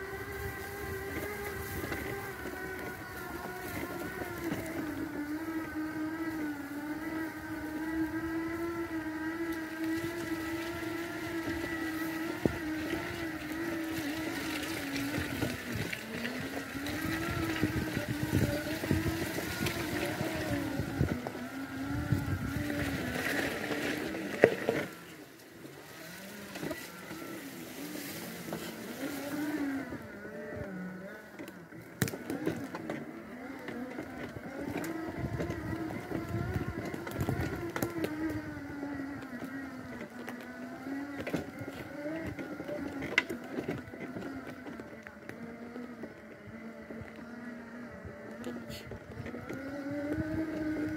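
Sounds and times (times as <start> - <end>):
wheelchair motors whining: 0.0 - 50.9.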